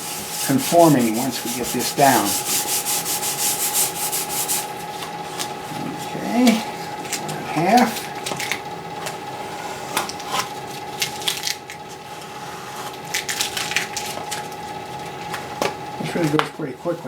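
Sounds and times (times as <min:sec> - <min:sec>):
faint hum: 0:00.0 - 0:17.0
vinyl sheet crinkling and scraping: 0:00.0 - 0:17.0.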